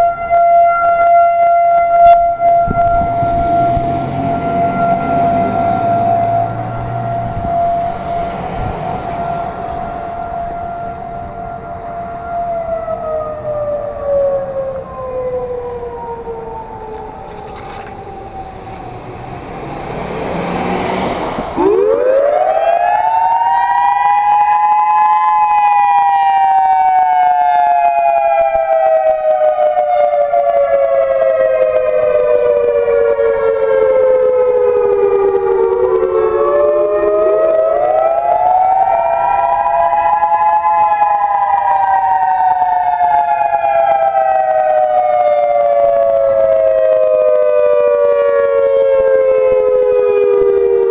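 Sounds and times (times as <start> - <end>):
warning siren wailing: 0.0 - 50.9.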